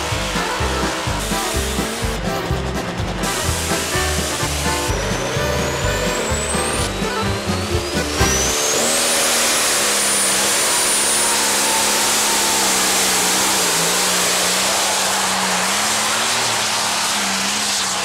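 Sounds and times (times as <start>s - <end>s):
high engine whine: 0.0s - 18.0s
tractor engine running flat out: 0.0s - 18.0s.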